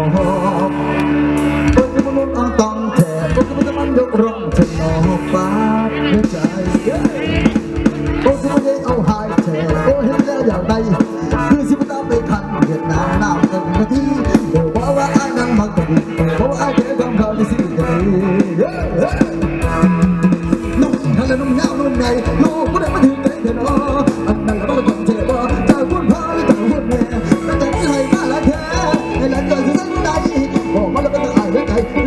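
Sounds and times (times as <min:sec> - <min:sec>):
bending melodic lead lines: 0:00.0 - 0:32.0
fast steady drum beat: 0:01.4 - 0:32.0.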